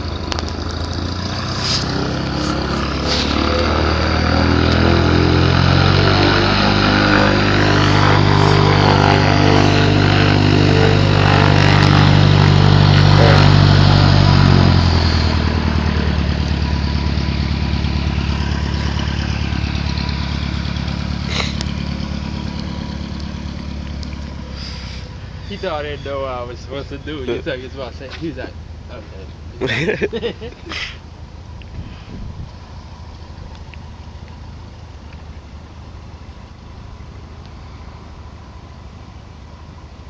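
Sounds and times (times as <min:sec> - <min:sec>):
propeller aircraft engine: 0:00.0 - 0:40.0.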